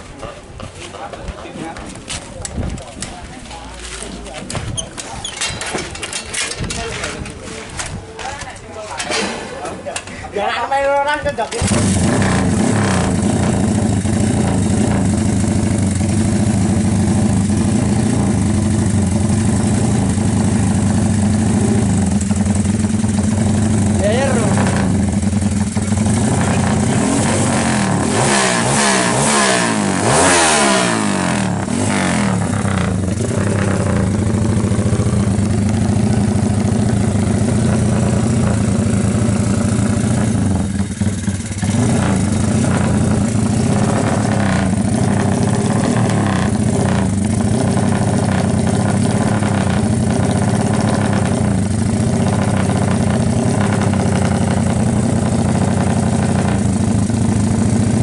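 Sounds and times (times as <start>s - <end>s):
single-cylinder engine revving: 11.5s - 58.0s.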